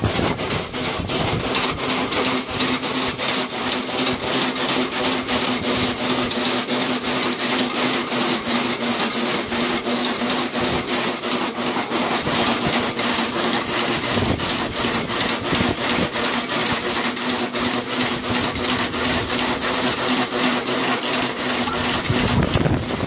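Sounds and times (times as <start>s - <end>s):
regular clatter: 0.0s - 23.0s
treadmill rasping rumble: 0.0s - 23.0s.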